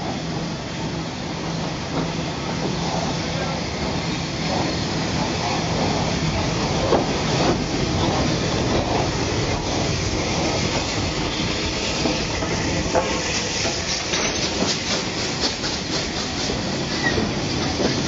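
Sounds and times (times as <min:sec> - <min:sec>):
steam locomotive hiss and rumble: 0:00.0 - 0:18.0.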